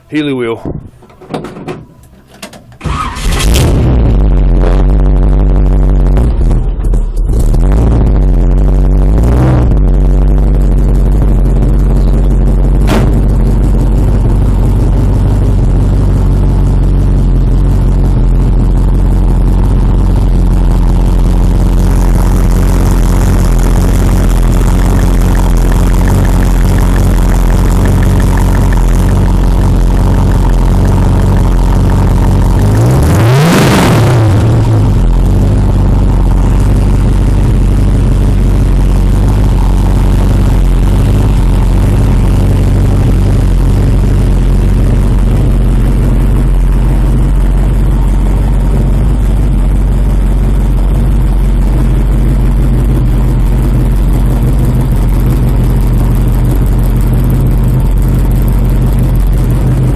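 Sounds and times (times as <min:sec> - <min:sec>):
car engine idling loudly: 0:00.0 - 0:59.9
engine revving: 0:02.8 - 0:59.9.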